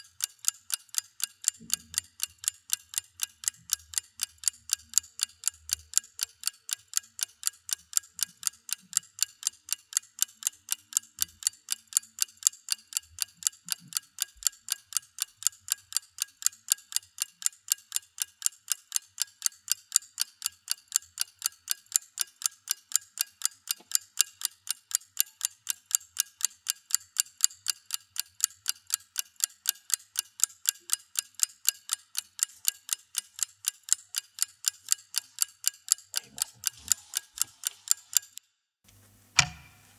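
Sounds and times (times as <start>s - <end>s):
clock ticking: 0.0s - 38.4s.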